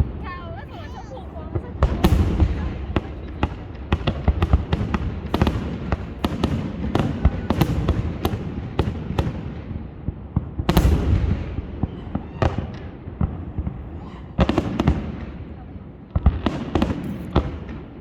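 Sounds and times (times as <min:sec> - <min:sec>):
fireworks bangs and crackles: 0:00.0 - 0:18.0
rumble of fireworks booms: 0:00.0 - 0:18.0.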